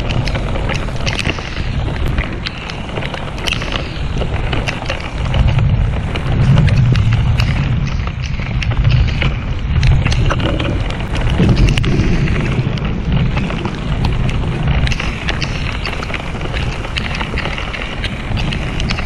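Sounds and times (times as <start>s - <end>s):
heavy rain hitting boat: 0.0s - 19.0s
low rumble: 0.0s - 19.0s
wind buffeting microphone: 0.0s - 19.0s.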